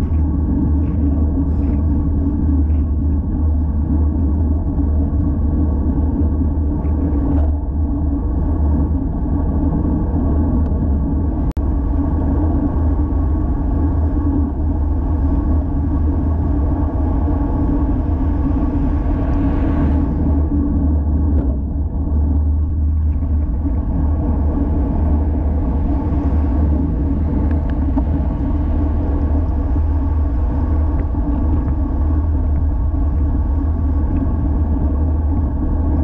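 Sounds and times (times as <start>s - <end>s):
bike tyre noise: 0.0s - 36.0s
wind buffeting microphone: 0.0s - 36.0s.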